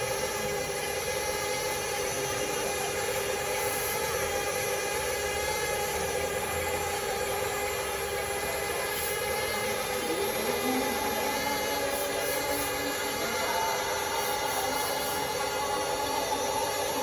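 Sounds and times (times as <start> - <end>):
toy electric motors whining: 0.0 - 17.0.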